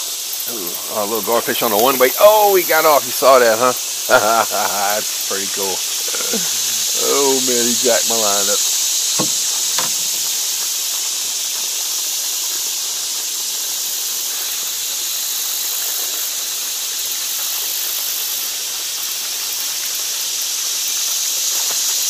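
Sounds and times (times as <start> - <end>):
cicadas singing: 0.0 - 22.0.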